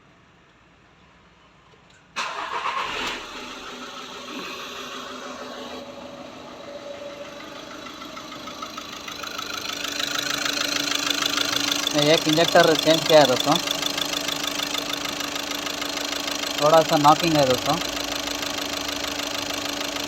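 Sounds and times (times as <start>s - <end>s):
diesel engine cranking and idling: 2.1s - 20.0s.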